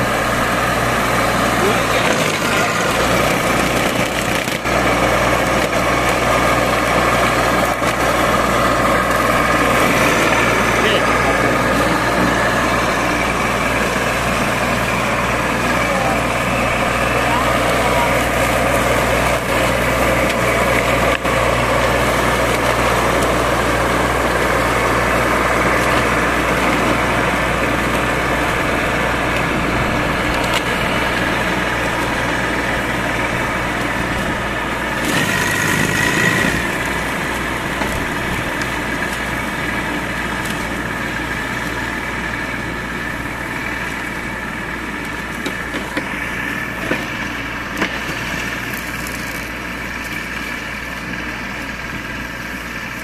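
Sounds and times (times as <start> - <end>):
ride-on mower running: 0.0 - 53.0.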